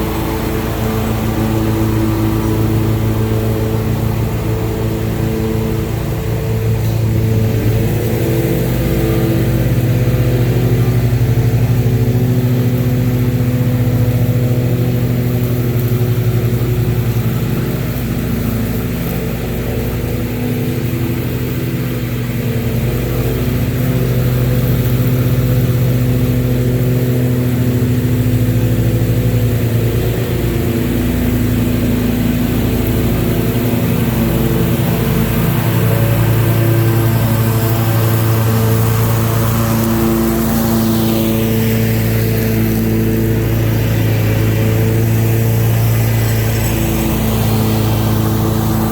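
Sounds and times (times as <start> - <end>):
mower engine running: 0.0 - 48.9.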